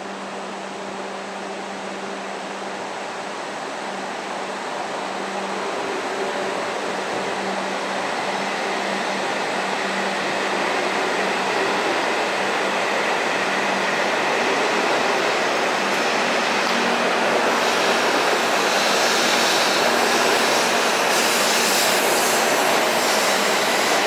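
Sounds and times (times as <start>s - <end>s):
train running noise: 0.0s - 24.0s.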